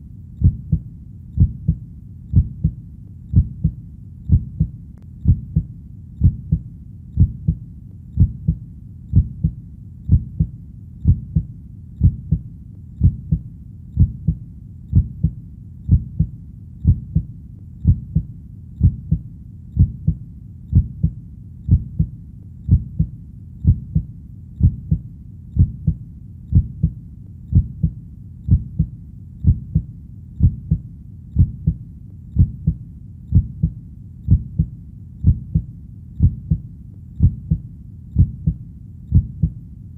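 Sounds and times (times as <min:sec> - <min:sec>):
faint low rumble: 0:00.0 - 0:39.9
heartbeat thumps: 0:00.4 - 0:39.6.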